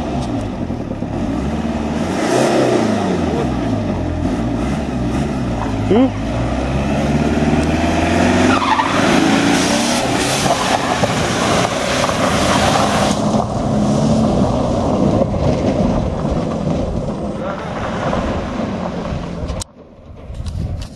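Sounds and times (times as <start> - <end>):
car engine at high revs: 0.0 - 19.7
loud rushing noise: 0.9 - 19.6.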